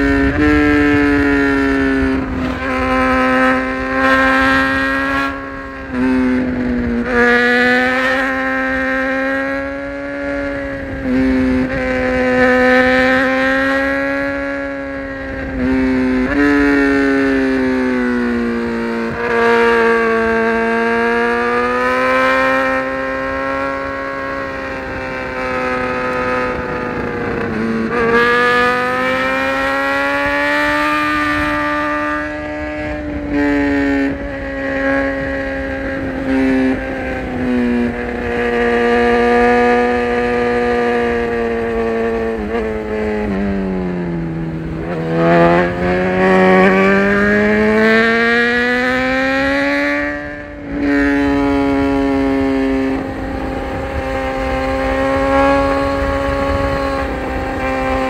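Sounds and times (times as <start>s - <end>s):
motorcycle engine pulling hard: 0.0s - 58.0s.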